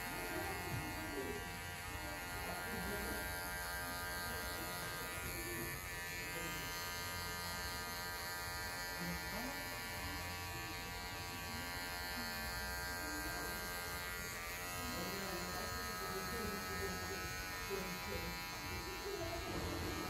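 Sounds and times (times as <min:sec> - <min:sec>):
electric hair clipper buzzing: 0:00.0 - 0:20.0.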